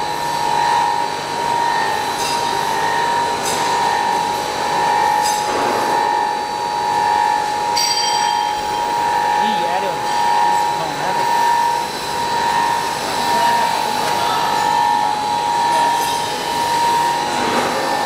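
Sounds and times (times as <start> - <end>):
high machine whine: 0.0 - 18.0.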